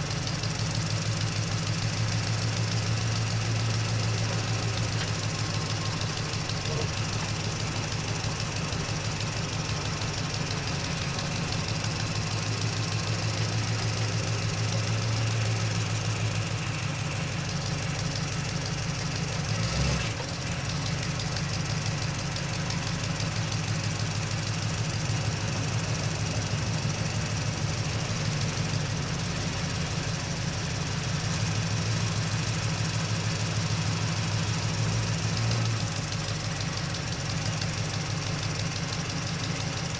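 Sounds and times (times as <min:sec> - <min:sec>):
truck engine low drone: 0:00.0 - 0:39.9.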